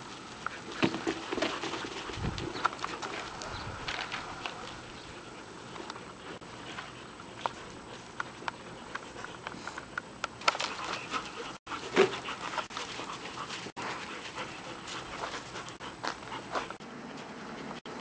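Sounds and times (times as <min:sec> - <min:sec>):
puppies scuffling on gravel: 0:00.0 - 0:09.8, 0:10.4 - 0:17.7
puppies panting: 0:00.2 - 0:17.8.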